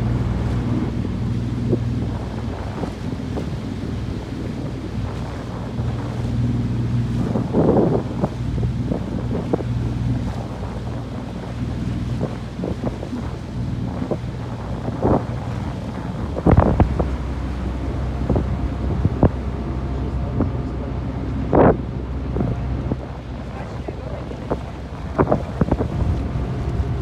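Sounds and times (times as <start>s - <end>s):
motorboat engine running: 0.0s - 27.0s
wind buffeting microphone: 0.0s - 27.0s.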